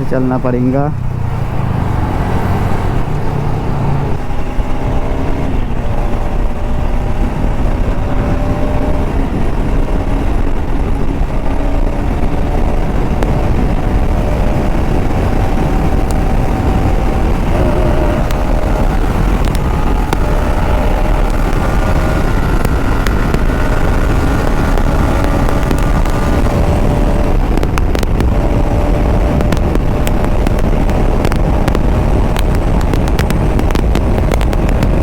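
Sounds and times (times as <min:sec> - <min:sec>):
heavy wind rush: 0:00.0 - 0:35.0
motorcycle engine revving: 0:00.0 - 0:35.0.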